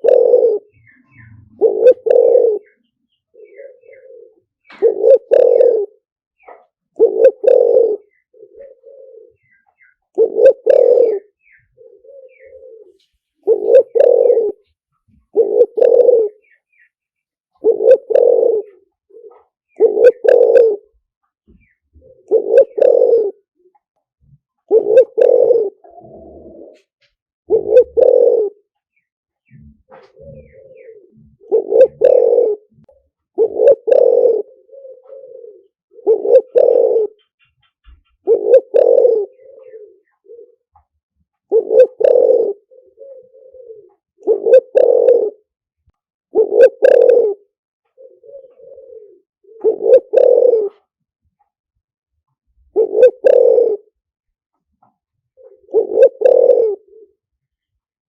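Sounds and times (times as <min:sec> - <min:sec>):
dove cooing: 0:00.0 - 0:45.6, 0:46.3 - 0:51.5, 0:52.3 - 0:54.0, 0:54.6 - 0:57.6.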